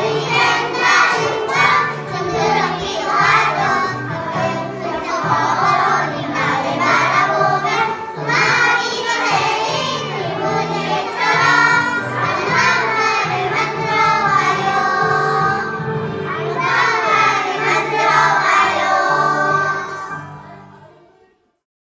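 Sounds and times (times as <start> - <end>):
children singing in unison: 0.0 - 20.3
musical accompaniment: 0.0 - 21.4.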